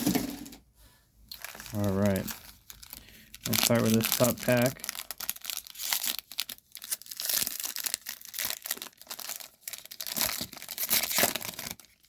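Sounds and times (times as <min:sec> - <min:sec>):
plastic wrapper tearing and crinkling: 0:01.3 - 0:12.0.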